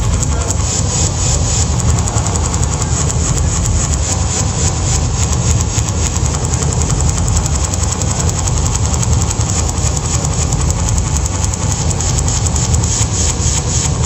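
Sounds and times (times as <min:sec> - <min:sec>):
loud electronic music: 0:00.0 - 0:14.0.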